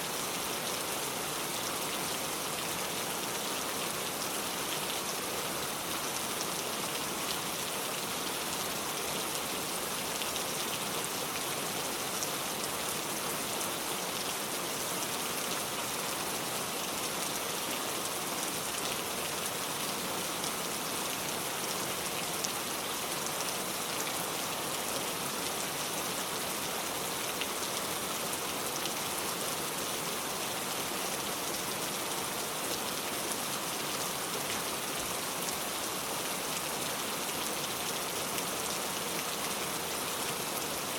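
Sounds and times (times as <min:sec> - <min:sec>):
rain falling on a car: 0:00.2 - 0:40.9.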